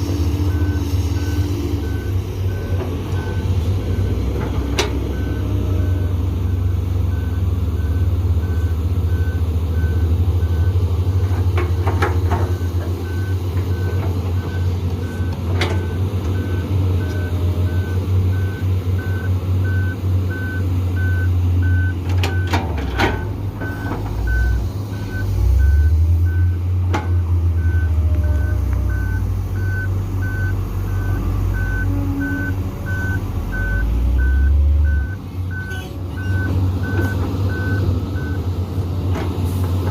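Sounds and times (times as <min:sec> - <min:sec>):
diesel engines rumbling: 0:00.0 - 0:39.9
reversing alarm beeping: 0:00.3 - 0:04.4, 0:05.1 - 0:10.8, 0:11.8 - 0:26.6, 0:27.6 - 0:38.4.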